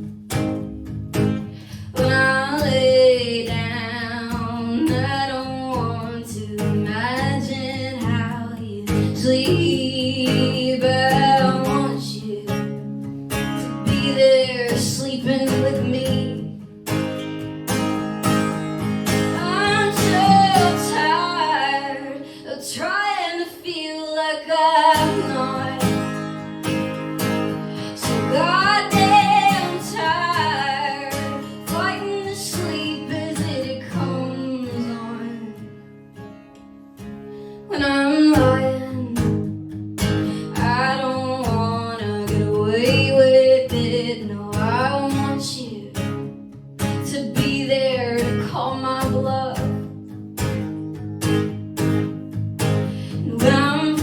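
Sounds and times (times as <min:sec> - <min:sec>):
acoustic guitar: 0:00.0 - 0:54.0
woman singing: 0:01.4 - 0:16.8, 0:19.0 - 0:36.1, 0:37.6 - 0:50.0, 0:52.6 - 0:54.0.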